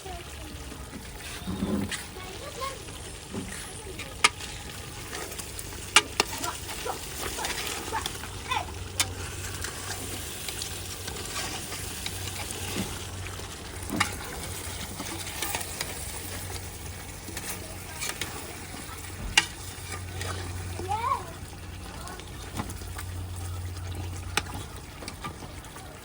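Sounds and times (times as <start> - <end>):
curry sizzling in a pot: 0.0 - 25.9.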